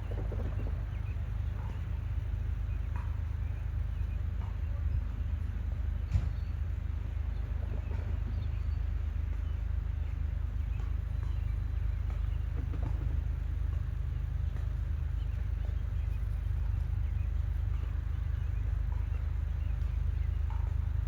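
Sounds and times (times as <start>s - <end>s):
freight train rumbling: 0.0s - 21.0s
wheels clicking on rails: 0.0s - 21.0s.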